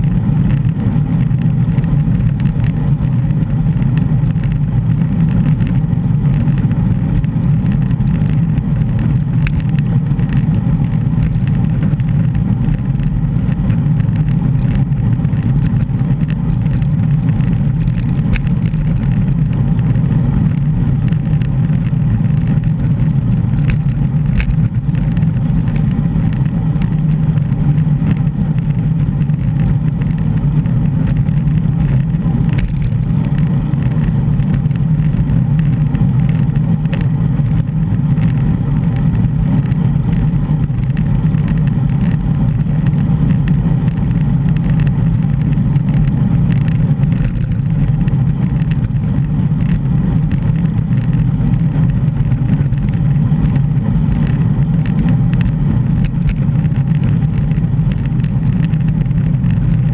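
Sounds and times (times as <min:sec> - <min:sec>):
bicycle road noise: 0:00.0 - 0:59.9
small rattles and clicks: 0:00.0 - 0:59.9.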